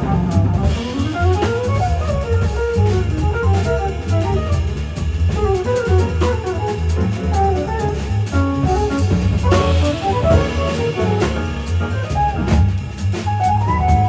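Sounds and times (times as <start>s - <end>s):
bass: 0.0s - 14.0s
drum kit with cymbals: 0.0s - 14.0s
piano: 0.0s - 14.0s.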